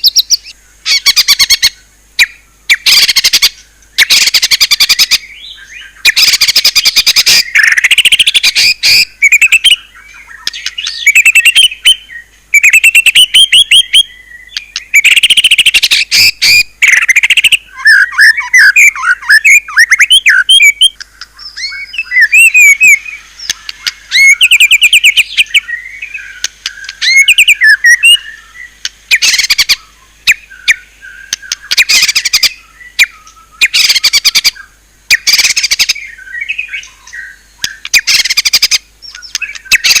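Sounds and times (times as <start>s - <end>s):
bird singing varied song: 0.0s - 40.0s.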